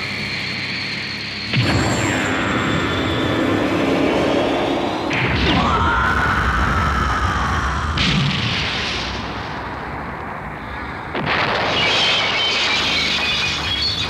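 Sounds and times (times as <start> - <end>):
high whine: 0.0 - 14.0
explosion blast: 1.5 - 10.0, 11.1 - 13.9.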